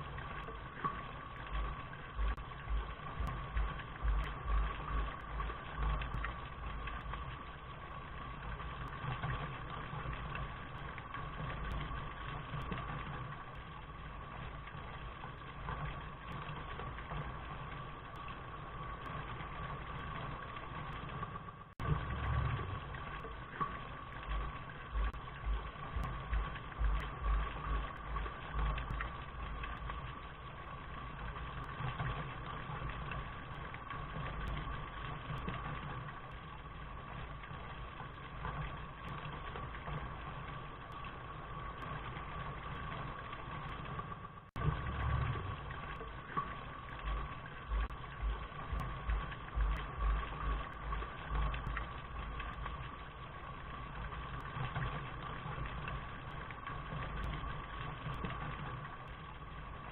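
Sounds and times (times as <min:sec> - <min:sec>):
low uneven rumble: 0:00.0 - 0:59.9
steady rain hiss: 0:00.0 - 0:59.9.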